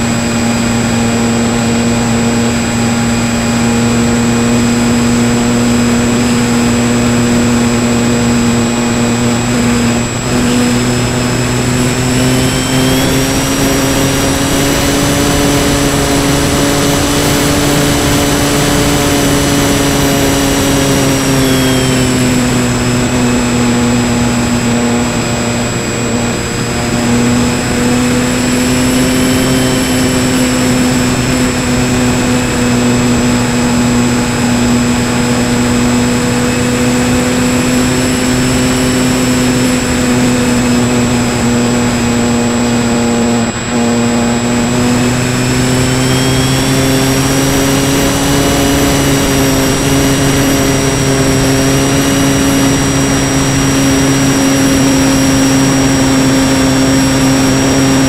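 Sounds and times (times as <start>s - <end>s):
model airplane motor droning: 0.0s - 58.0s.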